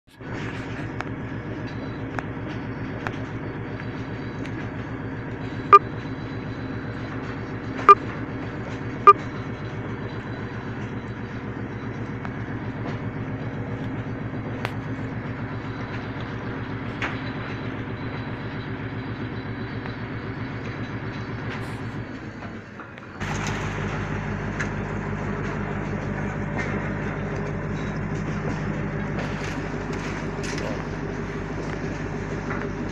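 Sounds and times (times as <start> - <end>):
diesel engine running: 0.1 - 32.9.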